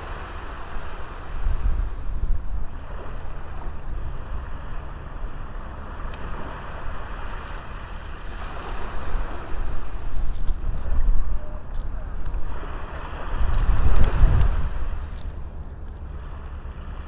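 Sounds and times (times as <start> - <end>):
sea waves washing onto beach: 0.0 - 17.0
wind rumble on microphone: 0.0 - 17.0.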